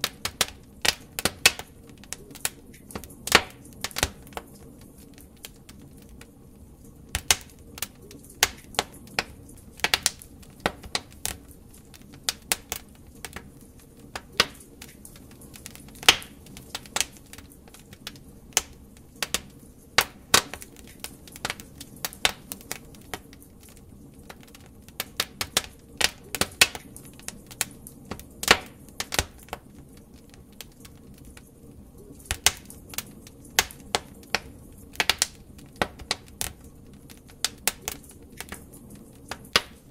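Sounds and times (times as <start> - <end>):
fire crackling and popping: 0.0 - 39.9
low hiss of fire: 0.0 - 39.9.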